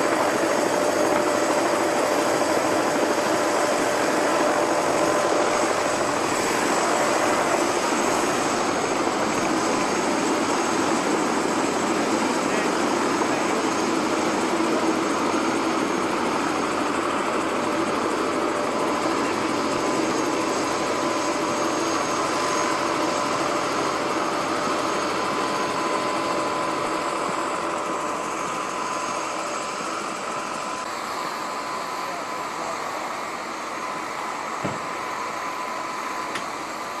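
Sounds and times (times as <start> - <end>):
engine drone with whine: 0.0 - 37.0.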